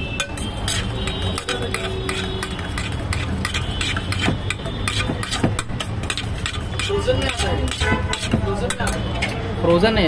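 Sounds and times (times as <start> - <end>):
metal utensil scraping metal vessel: 0.0 - 9.6.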